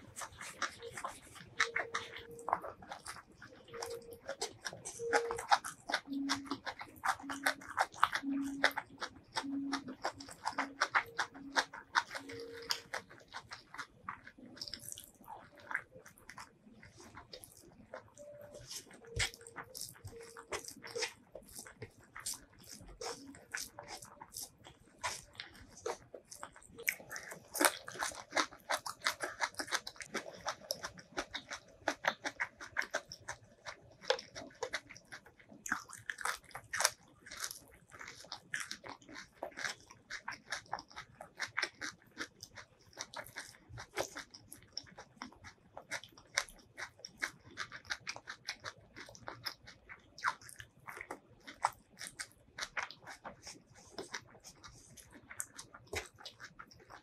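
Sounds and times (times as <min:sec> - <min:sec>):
wet chewing and mouth clicks: 0:00.0 - 0:57.0
crunchy bites of vegetables: 0:00.1 - 0:57.0.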